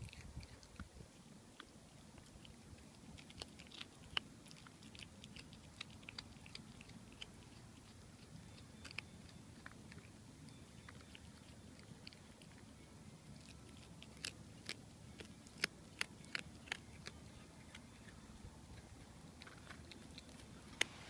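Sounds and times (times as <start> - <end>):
cat crunching bones: 0.0 - 21.0.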